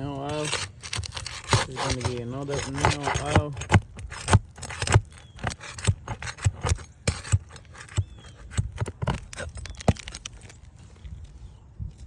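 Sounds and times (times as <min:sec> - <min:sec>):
roofing tool knocking and scraping: 0:00.0 - 0:10.5.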